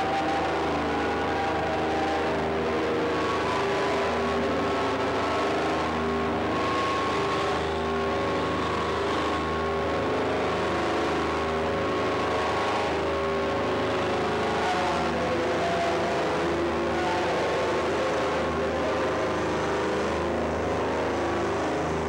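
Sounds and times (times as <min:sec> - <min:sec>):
drone music: 0:00.0 - 0:22.0.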